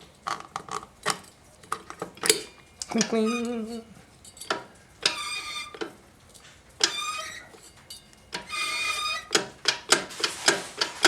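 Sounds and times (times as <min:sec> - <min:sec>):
steel parts clinking: 0:00.3 - 0:11.0
metallic rings: 0:01.2 - 0:11.0.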